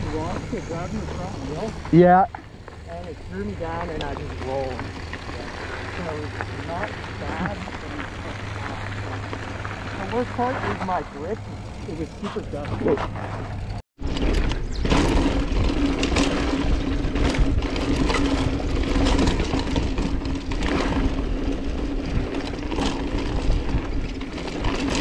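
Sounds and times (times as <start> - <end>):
bike rattling over bumps: 0.0 - 25.0
bike tyres crunching over gravel: 0.0 - 25.0.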